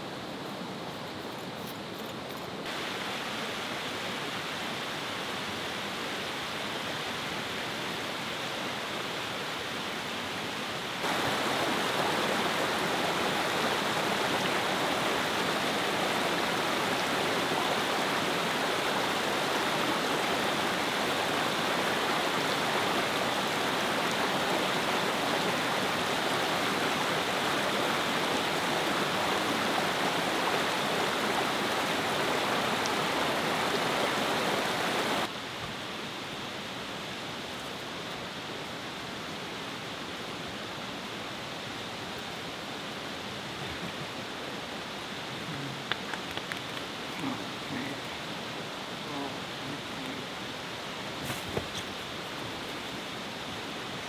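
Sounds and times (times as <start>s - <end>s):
water rushing over rocks: 2.6s - 54.0s.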